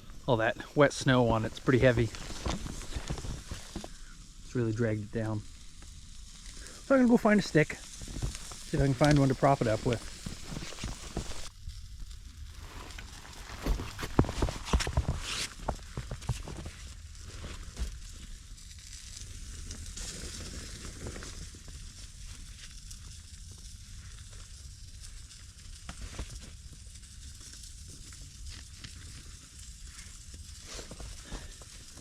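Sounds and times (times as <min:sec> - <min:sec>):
meat sizzling in a pan: 0:00.0 - 0:13.4, 0:16.7 - 0:32.0
small crackles: 0:00.0 - 0:32.0.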